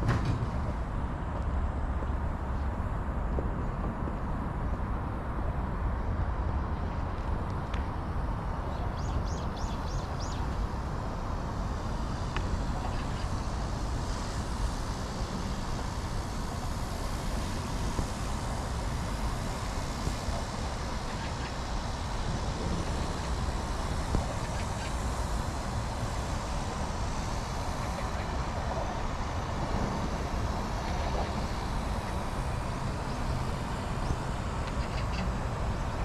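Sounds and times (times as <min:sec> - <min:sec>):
distant traffic rumble: 0:00.0 - 0:36.0.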